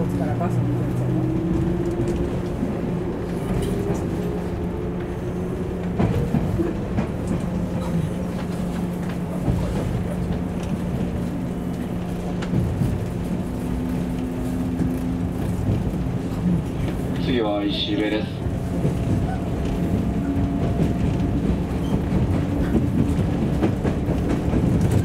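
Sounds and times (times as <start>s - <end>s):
train traction motor hum: 0.0s - 25.0s
train wheels clacking on rail joints: 3.2s - 25.0s.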